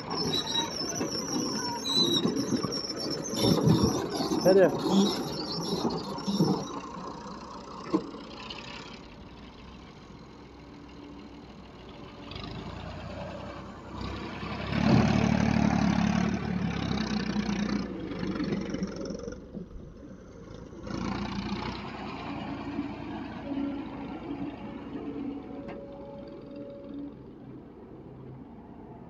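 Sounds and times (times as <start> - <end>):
tractor diesel engine revving: 0.0 - 27.8.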